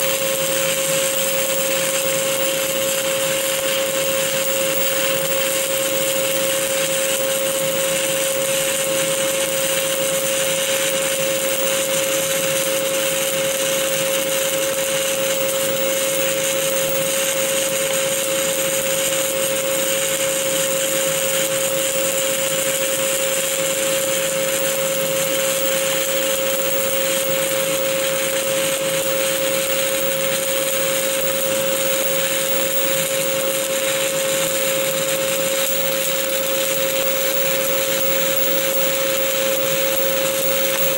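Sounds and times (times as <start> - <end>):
welding arc crackling hiss: 0.0 - 40.9.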